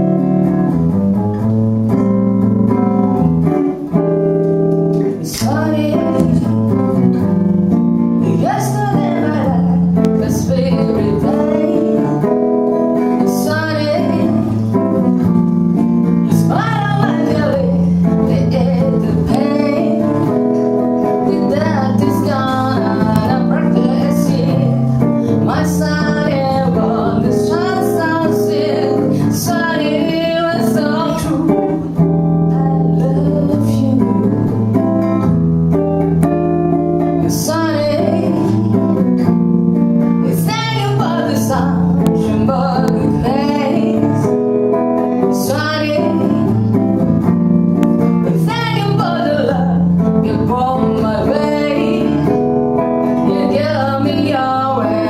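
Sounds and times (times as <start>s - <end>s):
woman singing: 4.9s - 35.1s, 37.0s - 55.0s.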